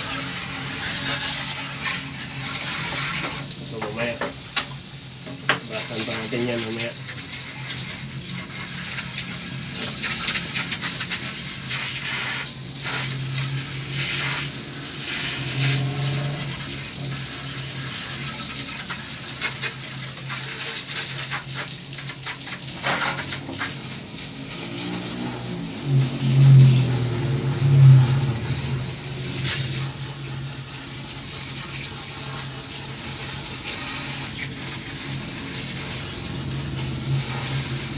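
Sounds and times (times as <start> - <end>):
brush scrubbing: 0.0 - 37.9.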